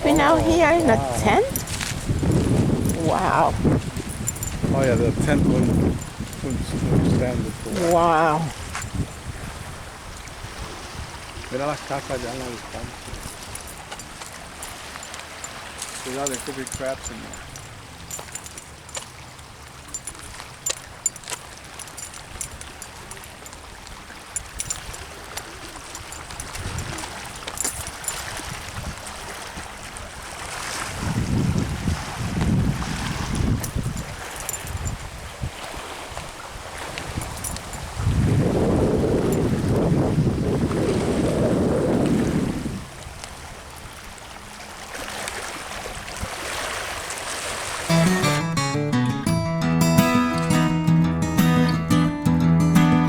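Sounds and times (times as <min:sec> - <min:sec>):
wind buffeting microphone: 0:00.0 - 0:44.4
water lapping at shoreline: 0:00.0 - 0:48.1.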